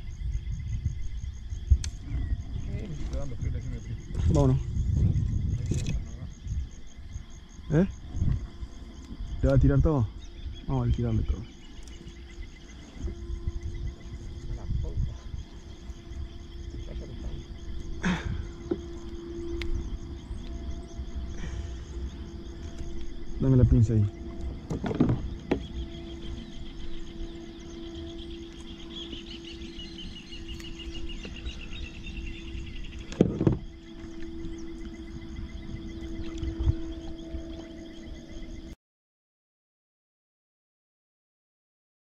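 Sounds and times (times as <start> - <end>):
low rumble: 0.0 - 38.7
insects chirping in trills: 0.0 - 38.8
steady low hum: 0.0 - 38.8.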